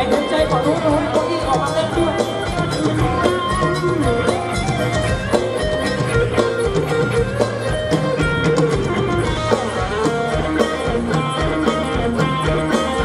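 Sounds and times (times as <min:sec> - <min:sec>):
guitar melody: 0:00.0 - 0:13.0
live band dance music: 0:00.0 - 0:13.0.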